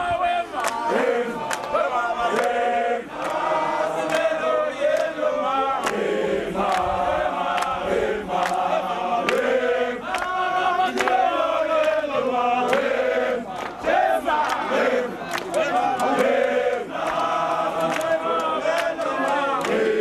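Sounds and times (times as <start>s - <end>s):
crowd of men singing: 0.0s - 20.0s.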